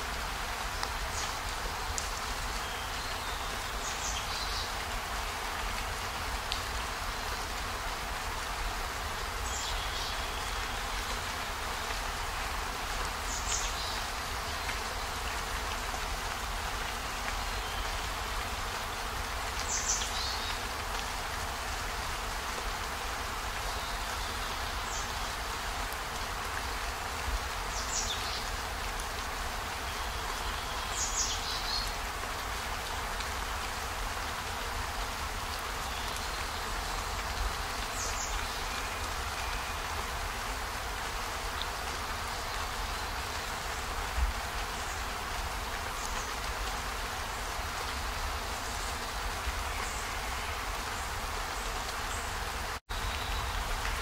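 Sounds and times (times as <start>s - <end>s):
steady rain hissing: 0.0s - 54.0s.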